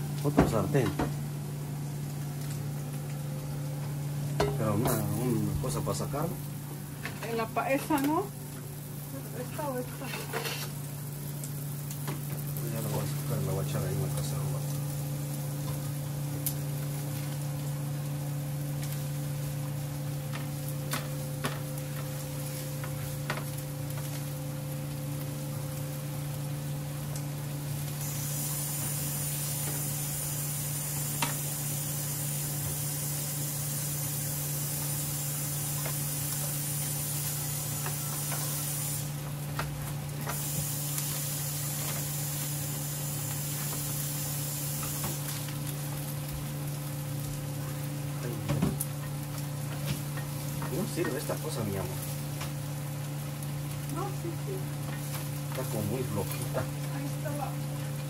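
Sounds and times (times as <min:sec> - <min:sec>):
meat sizzling: 0:00.0 - 0:58.0
steady low hum: 0:00.0 - 0:58.0.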